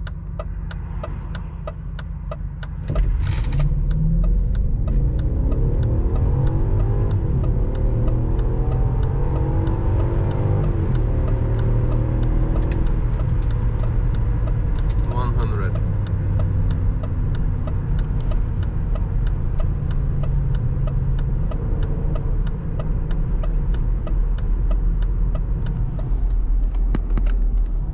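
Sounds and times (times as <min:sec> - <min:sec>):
car engine accelerating: 0:00.0 - 0:27.9
regular ticking: 0:00.0 - 0:27.9.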